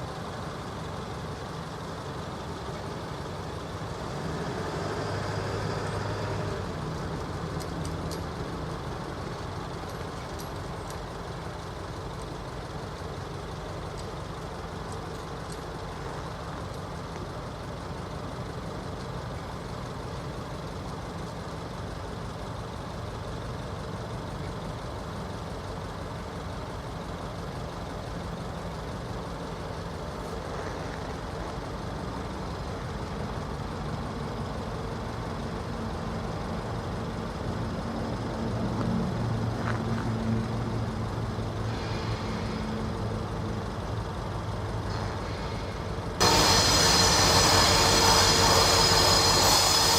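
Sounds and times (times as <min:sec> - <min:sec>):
diesel locomotive engine rumble: 0:00.0 - 0:49.9.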